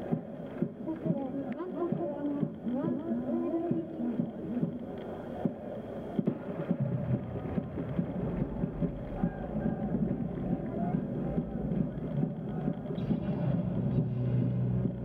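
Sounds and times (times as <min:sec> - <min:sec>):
murmur of spectators' voices: 0:00.0 - 0:15.0.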